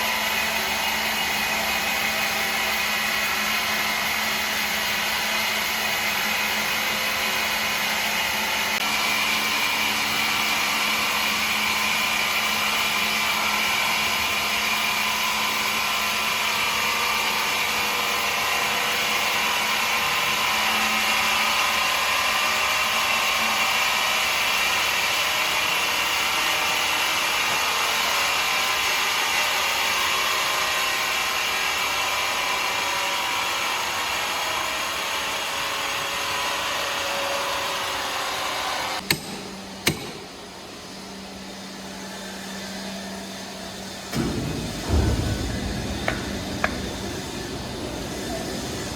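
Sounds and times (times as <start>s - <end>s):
woodworking machine whining and humming: 0.0s - 48.9s.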